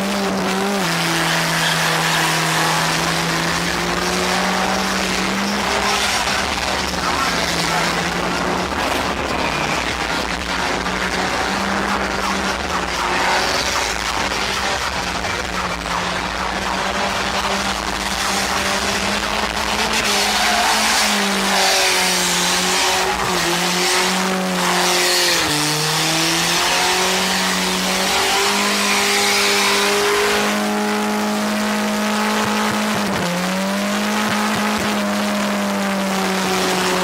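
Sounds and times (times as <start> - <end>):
car engine at high revs: 0.0 - 37.0
tyres squealing on pavement: 0.4 - 30.5.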